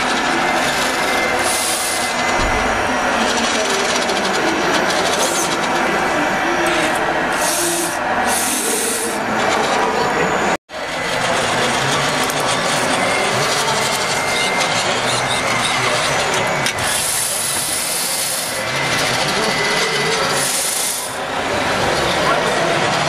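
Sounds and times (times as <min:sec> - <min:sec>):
model trucks whirring and rattling: 0:00.0 - 0:23.0.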